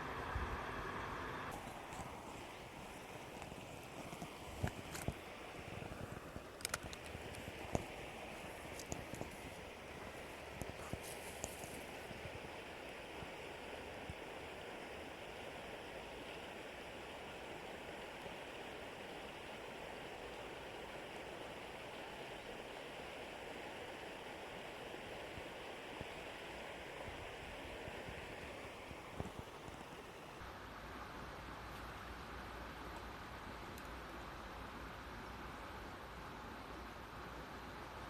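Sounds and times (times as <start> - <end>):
stream water rushing: 0.0 - 30.9.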